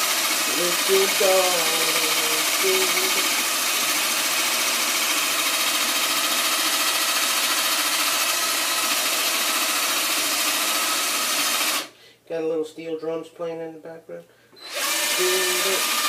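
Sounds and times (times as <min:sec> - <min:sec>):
power drill whirring: 0:00.0 - 0:11.9, 0:14.6 - 0:16.0.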